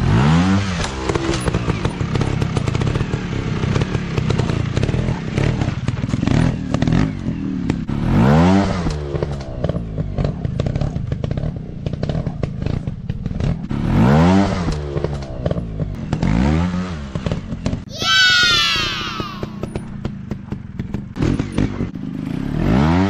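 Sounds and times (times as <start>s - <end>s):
dirt bike engines revving: 0.0s - 12.2s, 13.4s - 19.9s.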